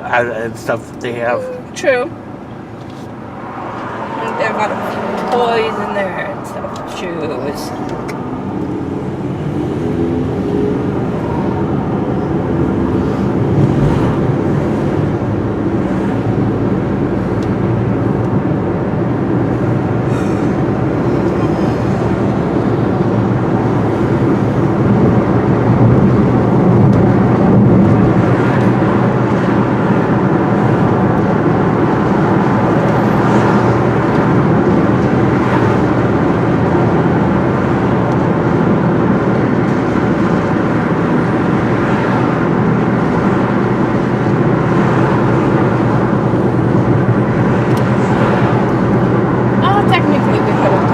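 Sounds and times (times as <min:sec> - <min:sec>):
road and engine noise inside car: 0:00.0 - 0:50.9.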